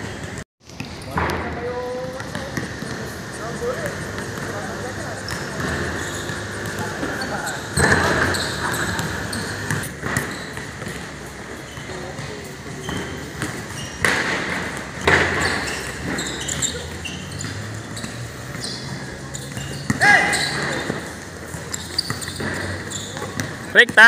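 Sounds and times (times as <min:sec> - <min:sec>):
players' voices: 0:01.0 - 0:10.0, 0:11.1 - 0:24.0
basketball bouncing on hard court: 0:02.0 - 0:24.0
shoe squeaks: 0:02.1 - 0:24.0.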